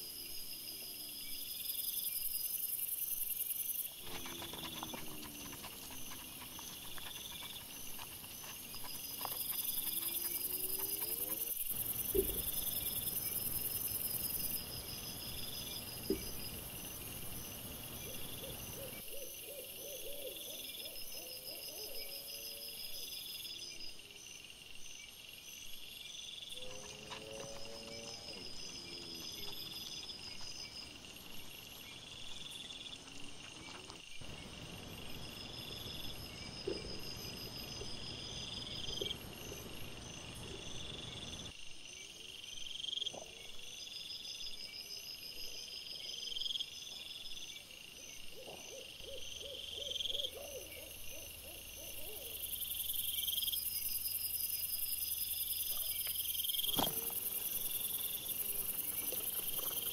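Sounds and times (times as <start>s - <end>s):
night insects chirping: 0.0s - 59.9s.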